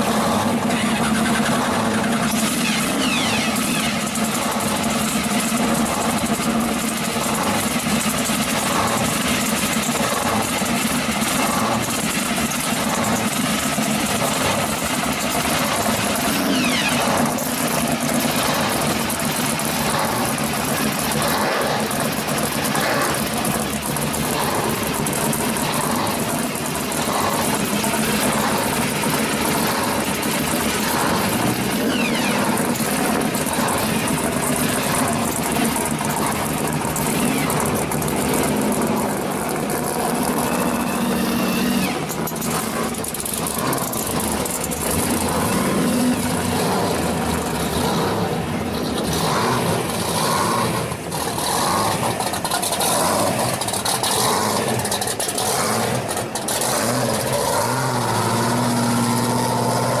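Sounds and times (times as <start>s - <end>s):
car exhausts idling: 0.0s - 60.0s.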